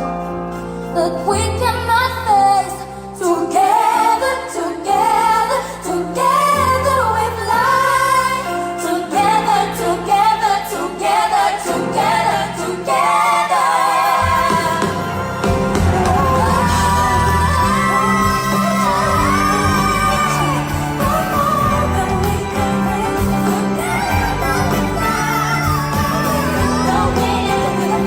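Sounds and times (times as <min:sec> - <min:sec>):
pop ballad with high-voiced singers: 0:00.0 - 0:28.0.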